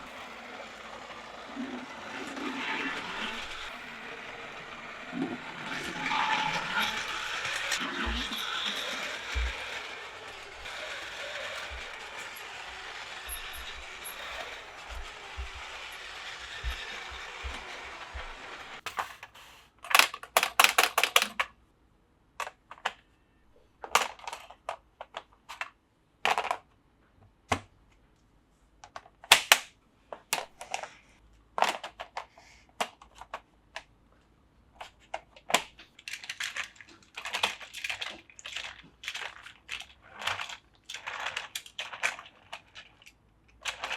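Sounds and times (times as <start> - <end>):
plastic toy track clicking: 0.0 - 21.6, 23.8 - 26.6, 28.8 - 31.0, 31.6 - 33.9, 34.8 - 43.9.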